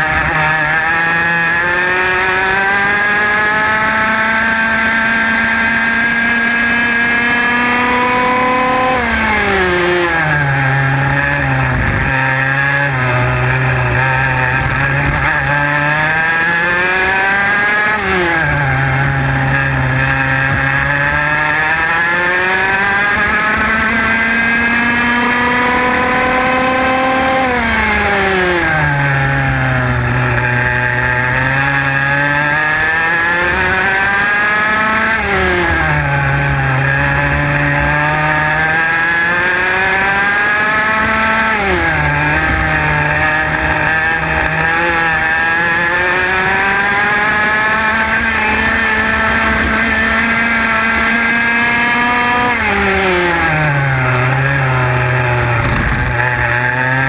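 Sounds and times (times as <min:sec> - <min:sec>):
kart engine at racing speed: 0:00.0 - 0:57.0.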